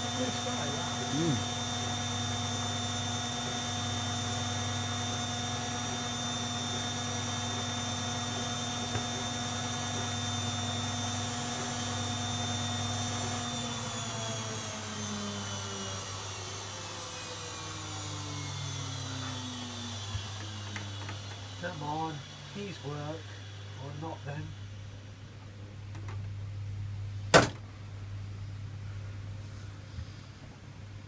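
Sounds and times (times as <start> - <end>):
motor whine: 0.0 - 25.1.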